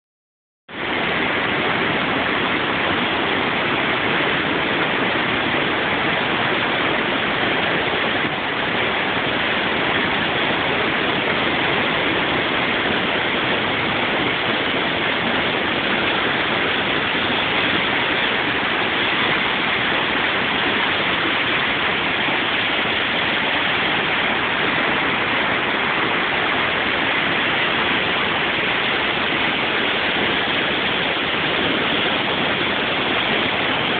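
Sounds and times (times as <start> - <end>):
waterfall rushing: 0.7 - 33.9.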